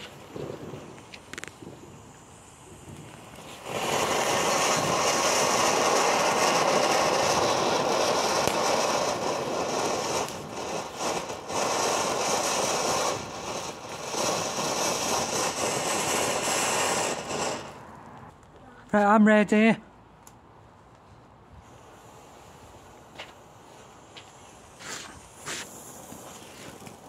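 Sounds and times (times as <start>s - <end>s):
firework fountain hissing: 0.0s - 18.3s, 21.5s - 27.0s.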